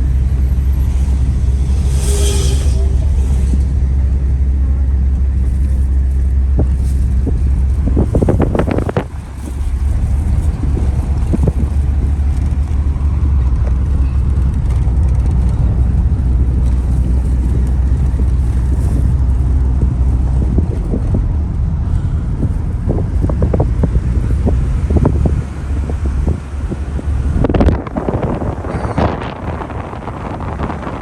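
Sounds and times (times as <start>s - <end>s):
car engine and road noise: 0.0s - 31.0s
wind buffeting microphone: 0.0s - 31.0s.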